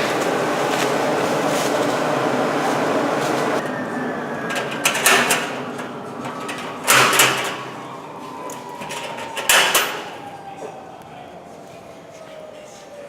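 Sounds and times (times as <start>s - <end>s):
extractor vacuum whine: 0.0s - 11.1s.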